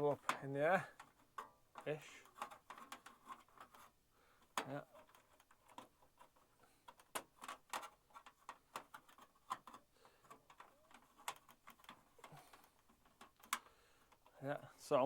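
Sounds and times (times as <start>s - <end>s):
clicks of handling plastic: 0.0s - 14.4s.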